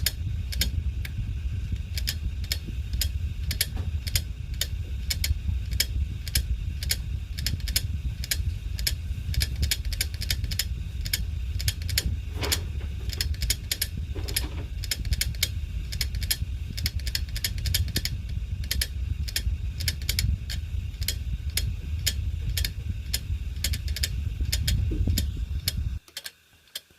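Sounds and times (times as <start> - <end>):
hard disk clicking: 0.0 - 26.9
steady low hum: 0.0 - 26.9.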